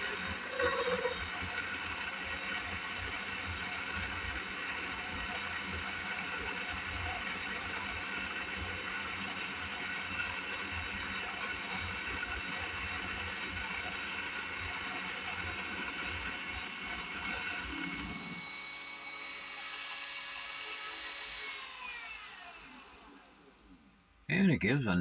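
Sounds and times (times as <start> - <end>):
lathe motor running: 0.0 - 23.7.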